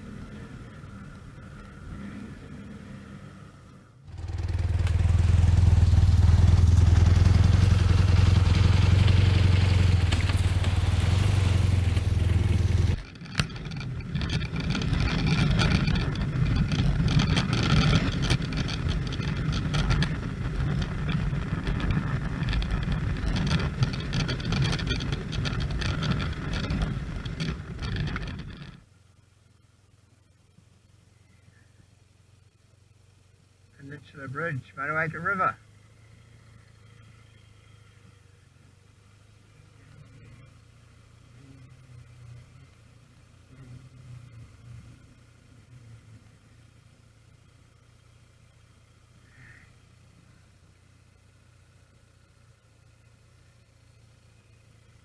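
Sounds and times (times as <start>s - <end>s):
motorcycle engine running: 4.0s - 29.4s, 35.5s - 55.0s.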